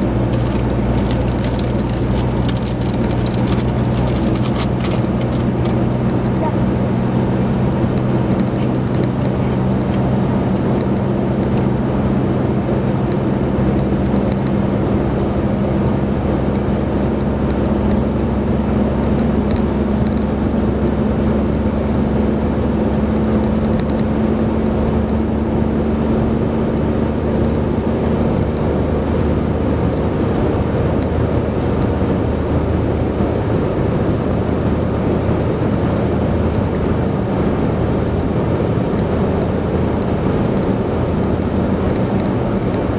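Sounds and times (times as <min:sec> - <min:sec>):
car engine hum: 0:00.0 - 0:42.9
tyre and road noise: 0:00.0 - 0:42.9.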